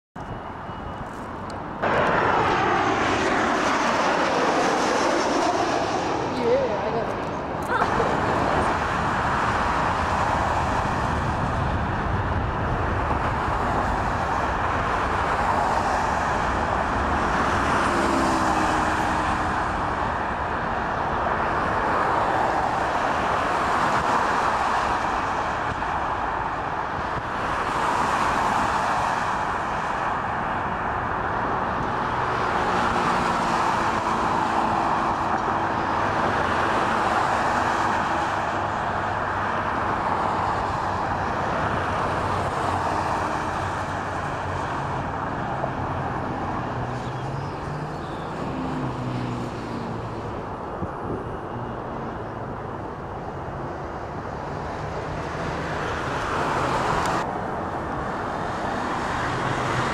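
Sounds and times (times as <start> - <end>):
traffic roar: 0.2 - 59.9.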